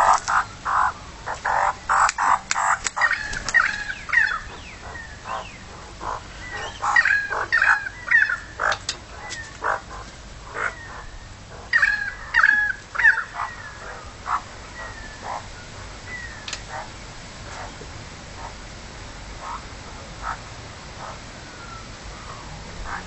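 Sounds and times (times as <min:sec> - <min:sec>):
magpies calling: 0:00.0 - 0:18.6, 0:19.4 - 0:23.0.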